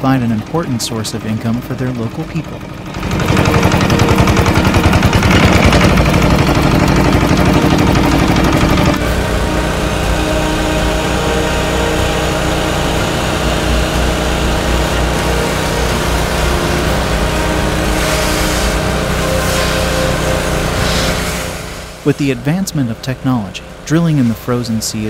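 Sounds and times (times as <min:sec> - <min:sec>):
engine running with fast pulse: 0:00.0 - 0:25.0
snowmaking fan guns droning: 0:00.0 - 0:25.0.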